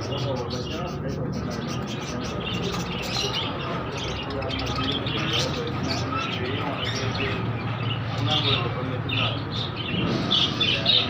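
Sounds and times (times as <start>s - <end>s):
low background murmur: 0.0s - 11.0s
small birds chirping: 0.0s - 11.0s.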